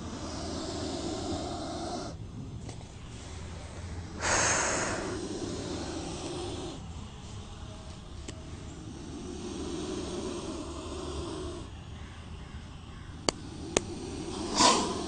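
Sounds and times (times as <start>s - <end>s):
cobra hissing: 0.0s - 2.2s, 3.0s - 15.0s.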